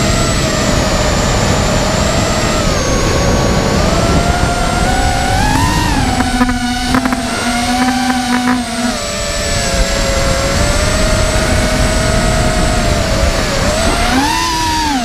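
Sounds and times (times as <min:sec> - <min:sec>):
electric motor and propeller whine: 0:00.0 - 0:15.0
wind rushing over microphone: 0:00.0 - 0:15.0.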